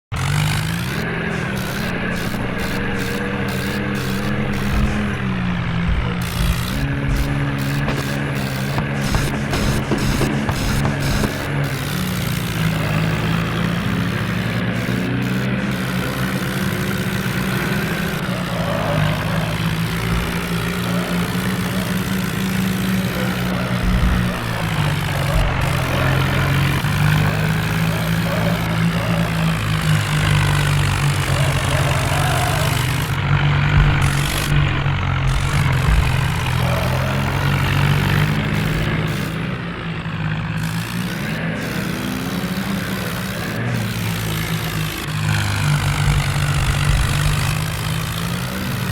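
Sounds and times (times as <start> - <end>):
tractor engine droning: 0.0 - 48.9.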